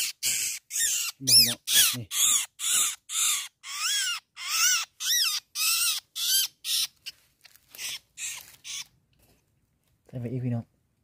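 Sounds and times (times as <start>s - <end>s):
bird squawking distress calls: 0.0s - 8.9s.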